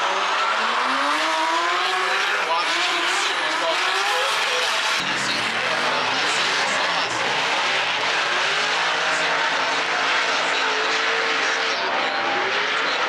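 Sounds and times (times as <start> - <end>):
car engines at high revs: 0.0 - 13.0.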